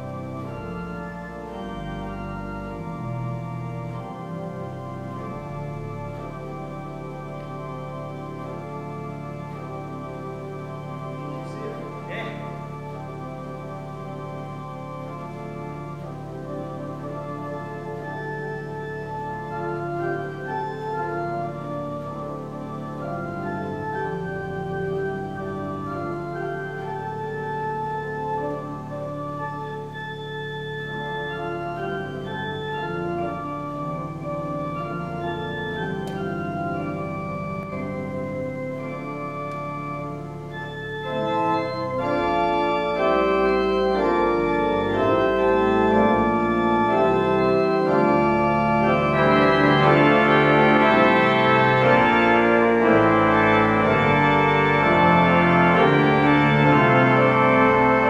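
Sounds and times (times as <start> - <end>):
pipe organ playing chords: 0.0 - 58.0.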